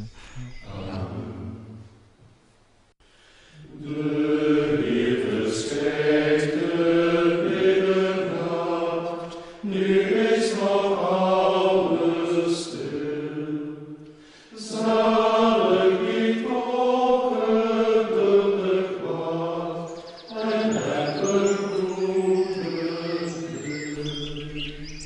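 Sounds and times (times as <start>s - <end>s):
monks chanting: 3.6s - 13.9s, 14.5s - 25.0s.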